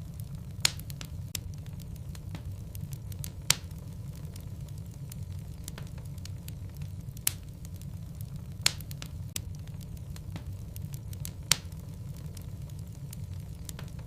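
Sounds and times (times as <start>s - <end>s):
loud pops from burning logs: 0.0s - 14.0s
low rumble of flames: 0.0s - 14.0s
small crackles of fire: 0.0s - 14.0s.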